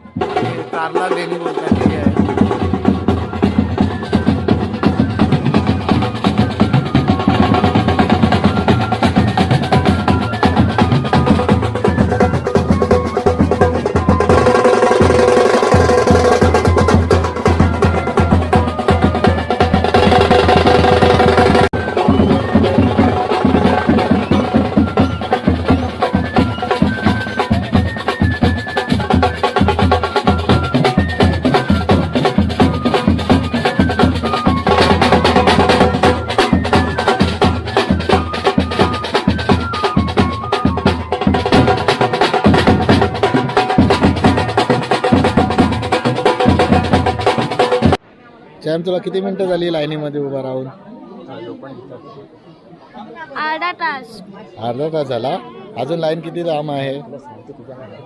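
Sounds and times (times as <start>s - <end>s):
band playing: 0.0s - 48.0s
fast dense drumming: 0.1s - 48.0s.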